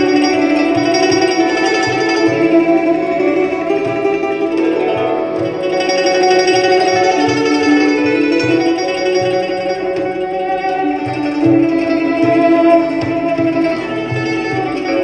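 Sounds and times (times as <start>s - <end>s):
traditional ensemble music: 0.0s - 15.0s.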